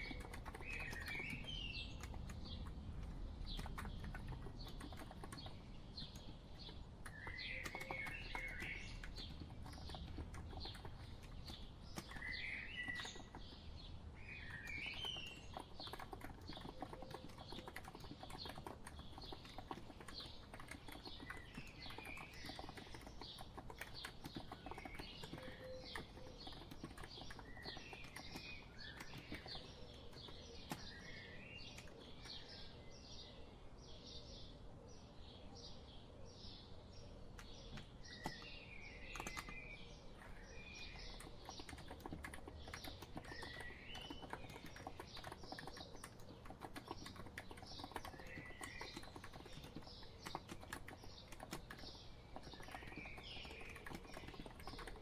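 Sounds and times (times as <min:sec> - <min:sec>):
keyboard typing clicks: 0:00.0 - 0:13.6, 0:14.4 - 0:32.6, 0:37.4 - 0:55.0
birds chirping: 0:00.0 - 0:55.0.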